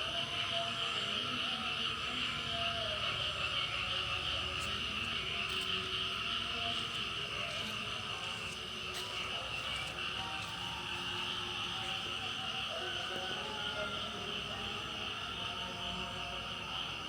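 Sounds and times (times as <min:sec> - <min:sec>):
frogs calling: 0:00.0 - 0:17.0
shrill insect drone: 0:00.0 - 0:17.0.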